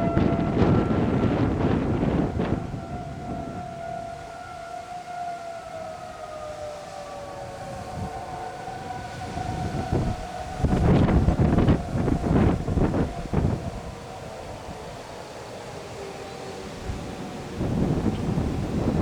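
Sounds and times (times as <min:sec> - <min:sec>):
warning siren wailing: 0:00.0 - 0:19.0
wind buffeting microphone: 0:00.0 - 0:19.0.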